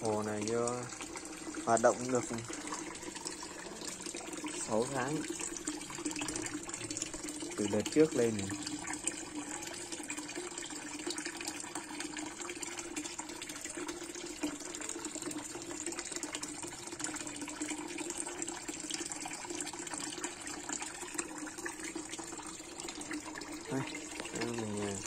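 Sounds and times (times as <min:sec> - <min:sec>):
water pouring into a pond: 0:00.0 - 0:25.0.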